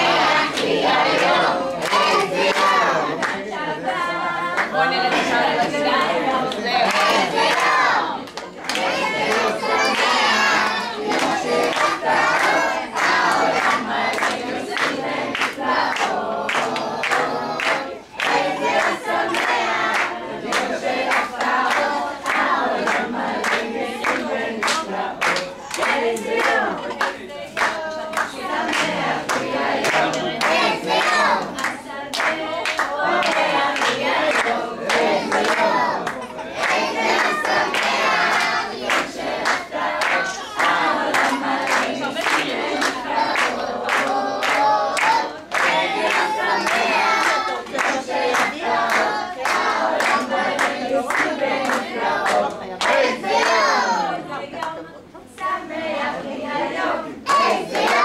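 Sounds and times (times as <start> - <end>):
children and adults singing: 0.0 - 58.0
hands clapping in time: 6.5 - 53.0.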